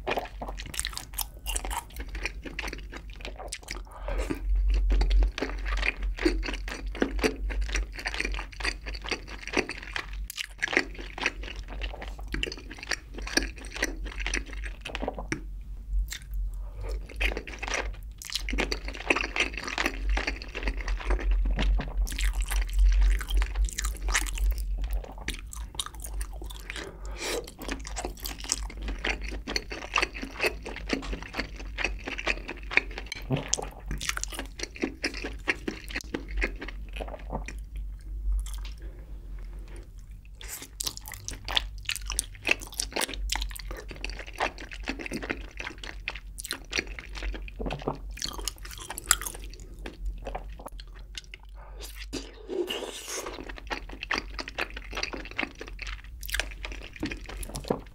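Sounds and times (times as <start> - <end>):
wet chewing sounds: 0.0 - 57.9.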